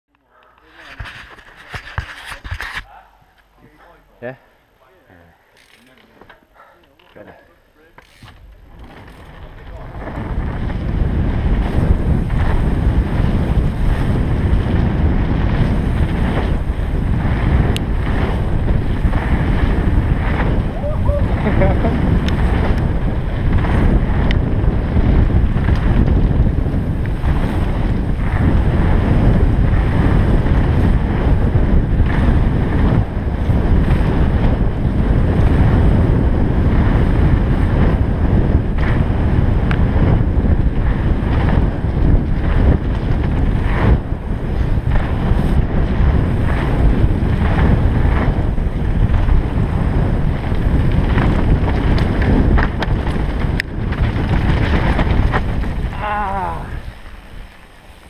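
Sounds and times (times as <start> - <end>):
wind buffeting microphone: 8.0 - 58.0
tyres rumbling on gravel: 8.1 - 58.0.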